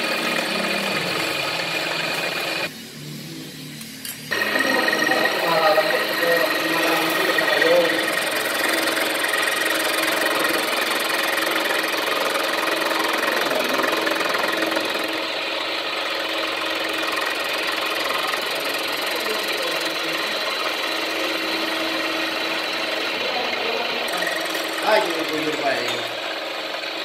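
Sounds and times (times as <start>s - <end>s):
machine motor humming: 0.0s - 27.0s.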